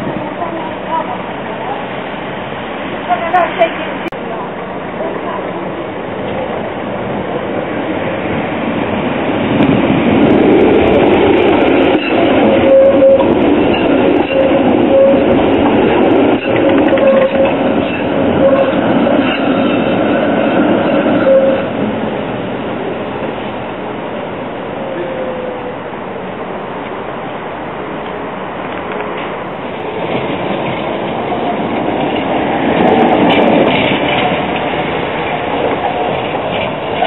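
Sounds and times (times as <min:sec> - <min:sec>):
tram rumbling along rails: 0:00.0 - 0:37.0.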